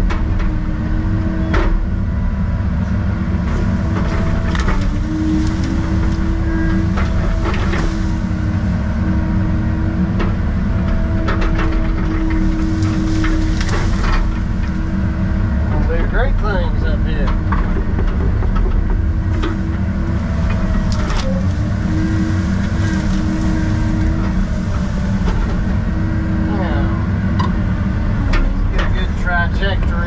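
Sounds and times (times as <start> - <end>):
diesel engine running: 0.0 - 30.0
hydraulic whine: 2.8 - 29.5.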